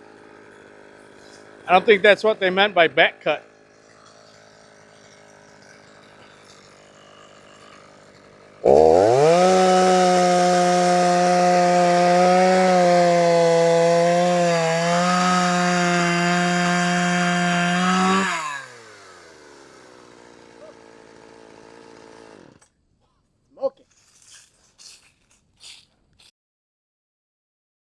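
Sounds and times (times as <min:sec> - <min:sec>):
chainsaw idling and revving: 0:00.0 - 0:22.8.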